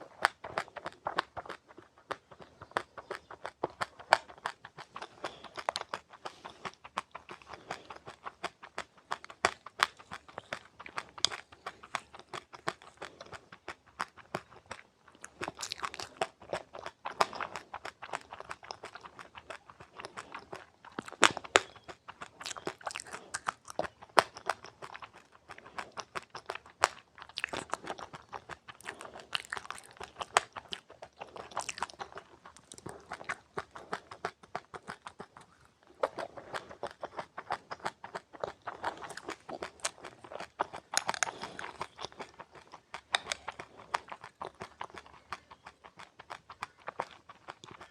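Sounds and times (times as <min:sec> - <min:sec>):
person chewing crunchy seeds: 0:00.0 - 0:47.9.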